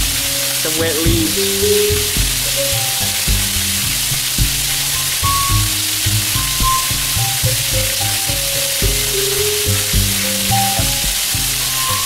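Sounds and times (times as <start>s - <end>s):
heavy rain on pavement: 0.0s - 12.0s
music with pulsing bass: 0.0s - 12.0s.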